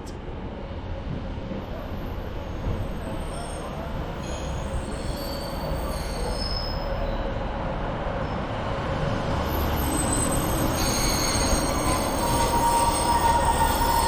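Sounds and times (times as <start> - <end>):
train rumble: 0.0 - 14.0
train wheels squealing on rails: 1.5 - 14.0.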